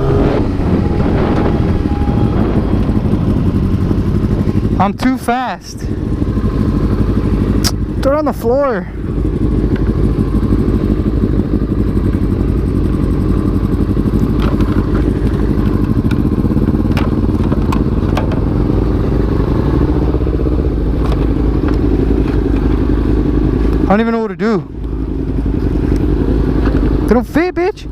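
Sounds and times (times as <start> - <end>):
motorcycle engine cruising: 0.0 - 27.9.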